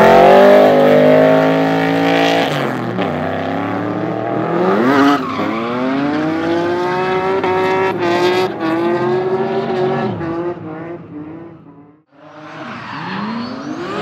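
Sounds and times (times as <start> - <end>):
engine at high revs: 0.0 - 14.0.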